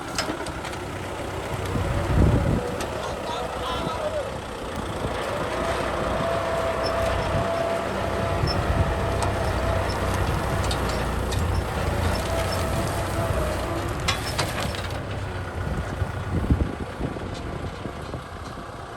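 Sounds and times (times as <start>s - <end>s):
tractor diesel engine rumbling: 0.0s - 18.9s.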